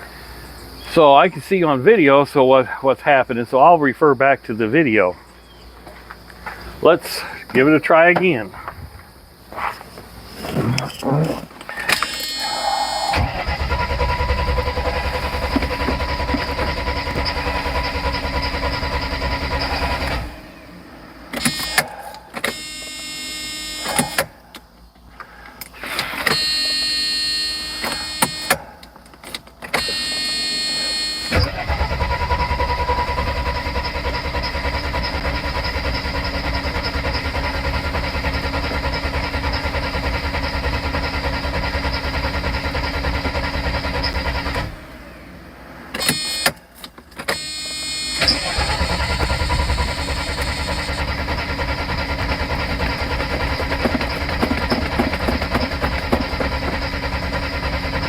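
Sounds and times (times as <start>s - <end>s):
car engine cranking on starter: 11.4s - 58.0s.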